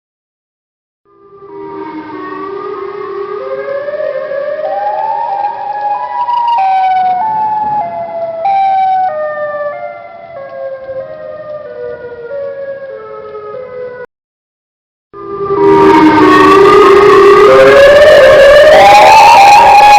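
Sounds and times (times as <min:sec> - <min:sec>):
tornado siren wailing: 0:01.1 - 0:14.1, 0:15.2 - 0:19.9.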